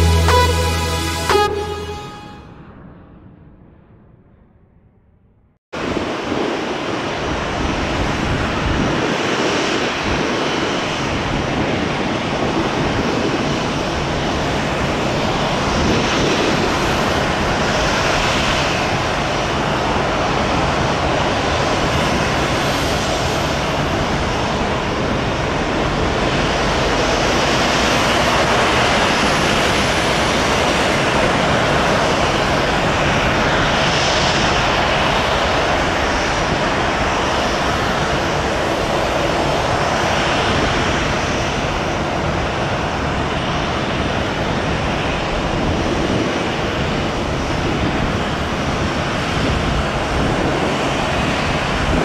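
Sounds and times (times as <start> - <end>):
jet aircraft approaching: 5.8 - 52.0.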